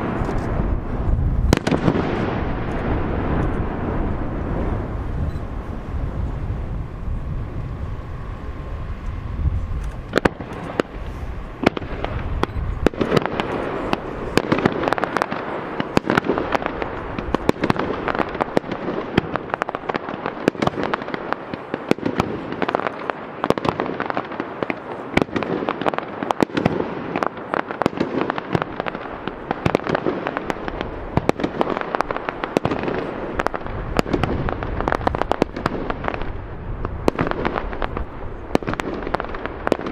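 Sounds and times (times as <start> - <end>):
fireworks crackling pops: 0.0 - 39.9
fireworks low rumble: 0.0 - 39.9.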